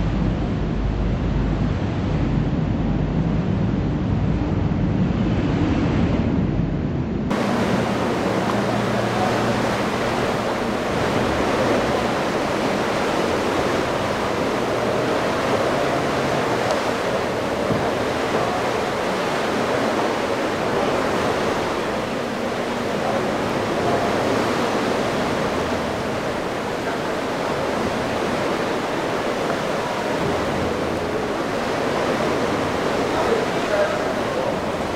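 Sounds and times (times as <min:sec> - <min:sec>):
outboard engines running: 0:00.0 - 0:34.9
water rushing and breaking: 0:00.0 - 0:34.9
wind on microphone: 0:00.0 - 0:34.9.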